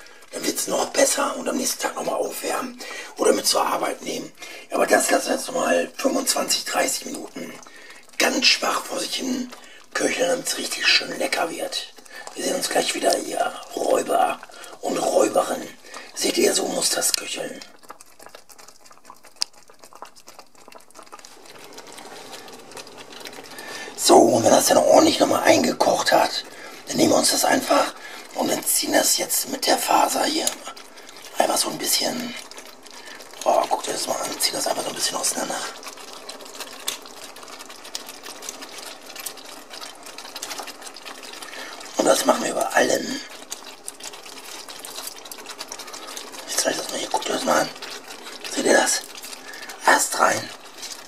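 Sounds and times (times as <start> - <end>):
sauce bubbling in a frying pan: 0.0 - 51.0
wet squelching: 0.0 - 51.0.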